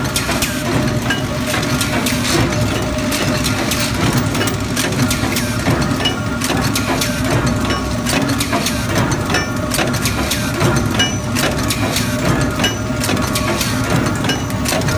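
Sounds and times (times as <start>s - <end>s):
metallic clanks and knocks: 0.8s - 10.0s, 10.6s - 14.9s.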